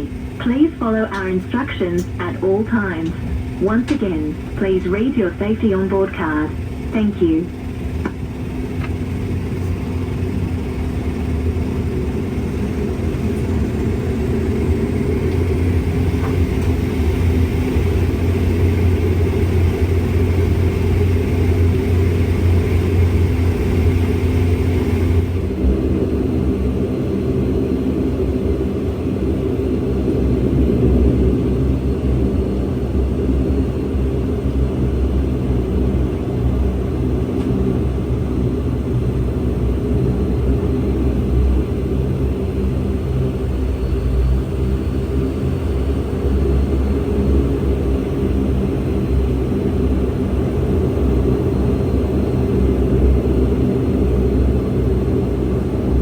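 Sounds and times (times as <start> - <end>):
constant low hums: 0.0 - 56.0
turboprop engines droning: 0.0 - 56.0.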